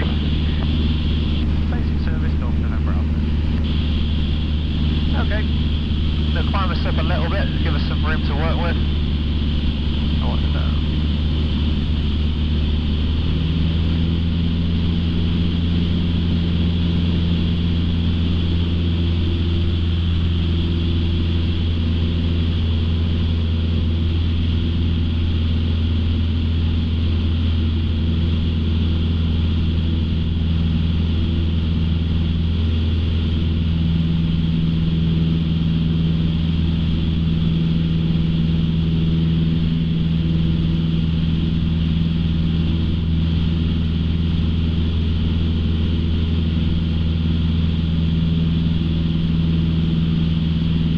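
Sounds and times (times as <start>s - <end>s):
light aircraft engine drone: 0.0s - 50.9s.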